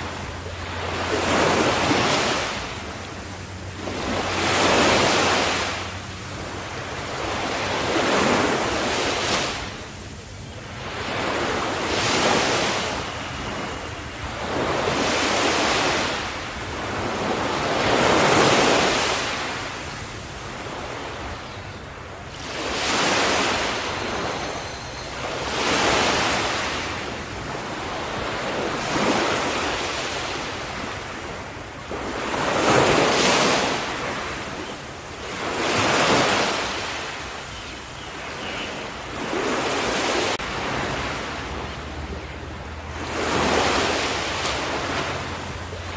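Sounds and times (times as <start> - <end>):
ocean waves breaking on shore: 0.0 - 45.9.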